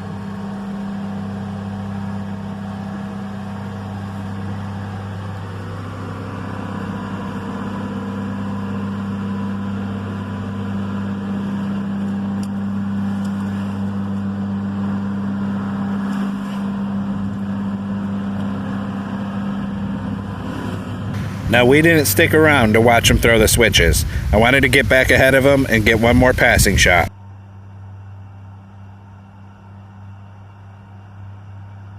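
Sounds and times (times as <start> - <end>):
heavy engine humming: 0.0 - 31.9.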